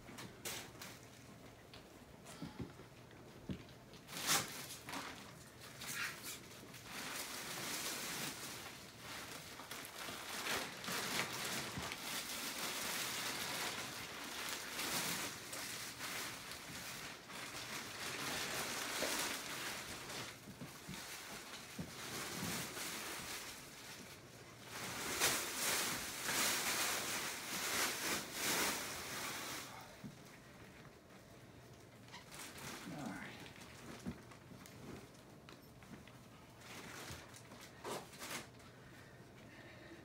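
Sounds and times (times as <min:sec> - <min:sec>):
plastic wrapping crinkling: 0:00.0 - 0:39.7.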